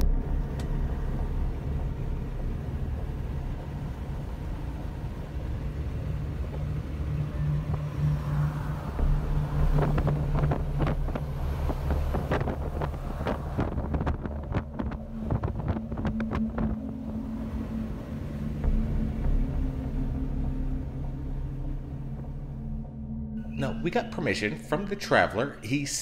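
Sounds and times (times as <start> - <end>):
wind on microphone: 0.0 - 22.3
low rumble: 0.0 - 26.0.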